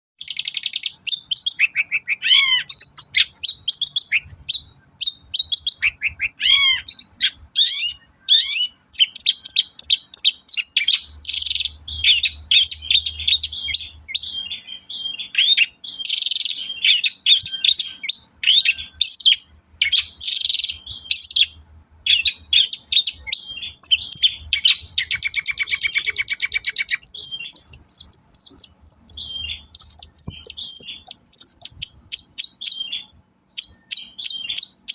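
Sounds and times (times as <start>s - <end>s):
bird singing: 0.2s - 34.9s.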